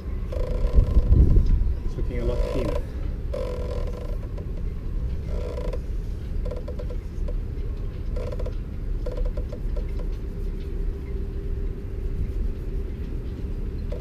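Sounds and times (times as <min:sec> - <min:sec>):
steady low rumble: 0:00.0 - 0:14.0
cloth squeaking on winch drum: 0:00.2 - 0:07.4, 0:08.0 - 0:11.0, 0:12.0 - 0:14.0.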